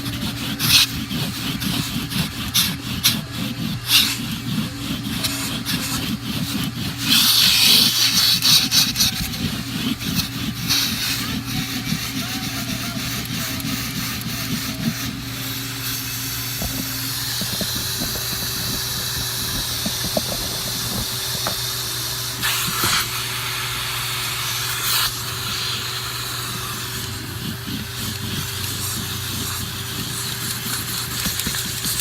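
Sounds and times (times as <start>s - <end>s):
vacuum cleaner running: 0.0s - 32.0s.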